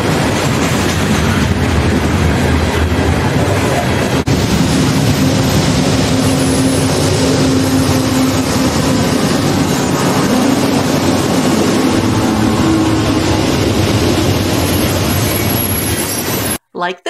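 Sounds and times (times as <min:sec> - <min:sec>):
diesel locomotive engine hum: 0:00.0 - 0:16.6
train wheels rumbling on rails: 0:00.0 - 0:16.6.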